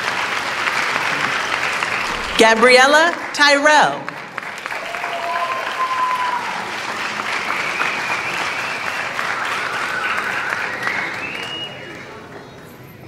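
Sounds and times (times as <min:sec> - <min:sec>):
audience clapping: 0:00.0 - 0:12.5.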